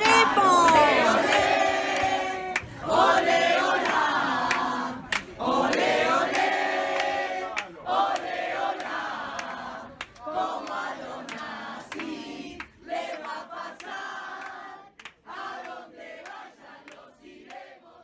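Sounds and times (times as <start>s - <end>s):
crowd chanting: 0.0s - 18.0s.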